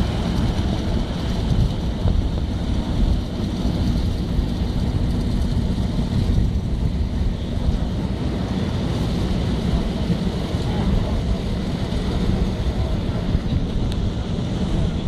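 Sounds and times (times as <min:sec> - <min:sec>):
tractor diesel engine running: 0:00.0 - 0:15.0
wind buffeting microphone: 0:00.0 - 0:15.0.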